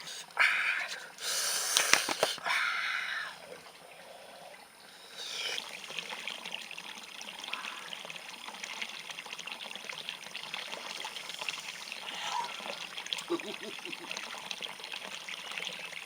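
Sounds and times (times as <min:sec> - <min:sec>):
water trickling and splashing: 0:00.0 - 0:16.0.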